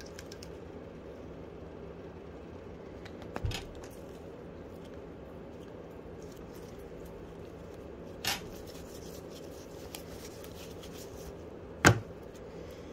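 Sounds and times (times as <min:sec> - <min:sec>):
low room hum: 0:00.0 - 0:12.9.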